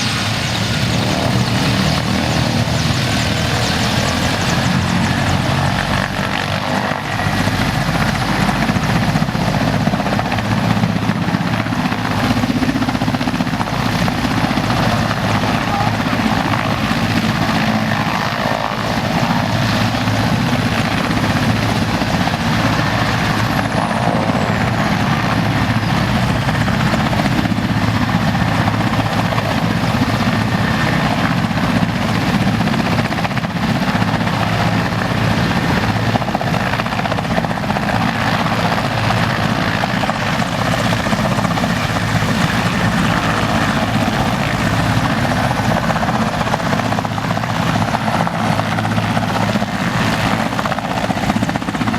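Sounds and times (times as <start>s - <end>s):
helicopter running: 0.0s - 51.9s.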